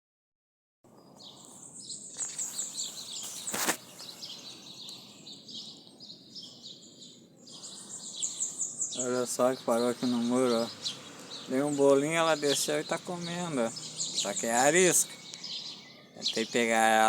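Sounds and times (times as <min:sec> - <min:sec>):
small bird chirping: 0:00.9 - 0:17.0.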